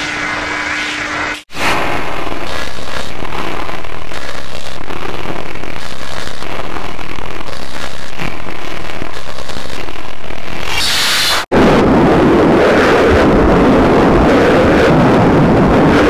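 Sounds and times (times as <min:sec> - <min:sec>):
distorted fireworks crackling: 0:00.0 - 0:16.0.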